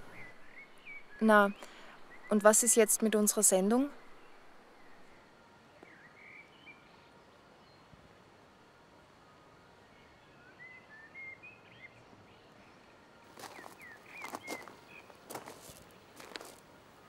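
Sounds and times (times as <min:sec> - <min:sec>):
birds chirping: 0:00.0 - 0:07.9, 0:09.9 - 0:16.6.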